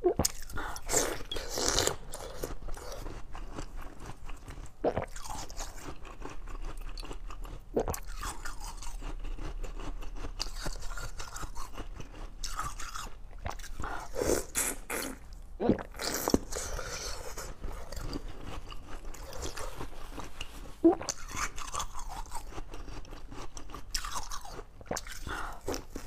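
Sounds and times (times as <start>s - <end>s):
crunching chewing of ice: 0.1s - 26.0s.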